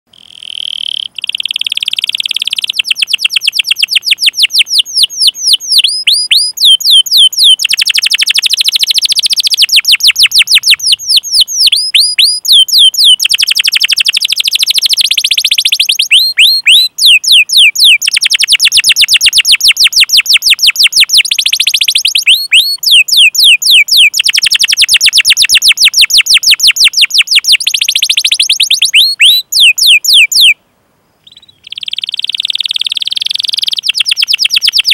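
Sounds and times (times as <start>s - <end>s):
canary singing rapid chirps: 0.3s - 30.6s, 31.2s - 34.9s.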